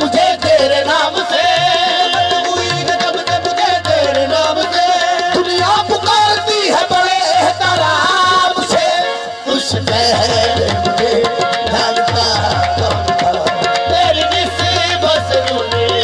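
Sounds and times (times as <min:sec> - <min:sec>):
driving tabla rhythm: 0:00.0 - 0:16.0
harmonium holding steady notes: 0:00.0 - 0:16.0.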